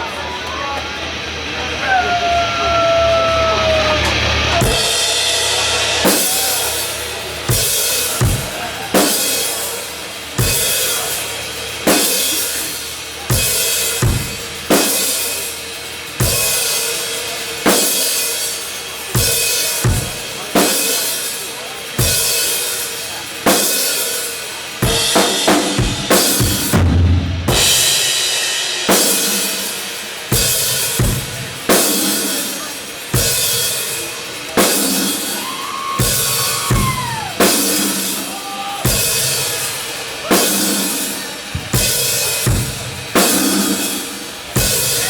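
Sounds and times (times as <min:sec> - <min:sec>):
metal band playing live: 0:00.0 - 0:45.0
heavy drum hits with crash cymbal: 0:03.1 - 0:45.0.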